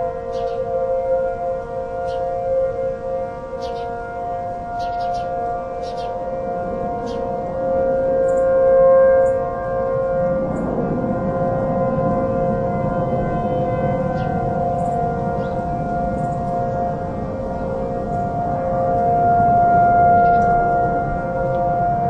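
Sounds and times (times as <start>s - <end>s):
distant warning sirens: 0.0s - 22.0s.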